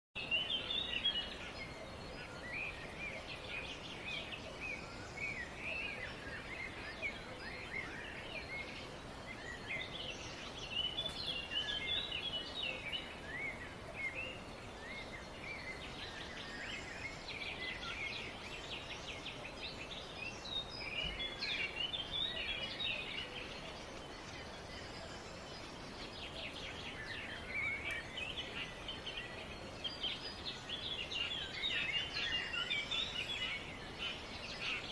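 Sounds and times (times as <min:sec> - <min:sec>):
background hiss: 0:00.2 - 0:34.9
small birds chirping: 0:00.2 - 0:34.9.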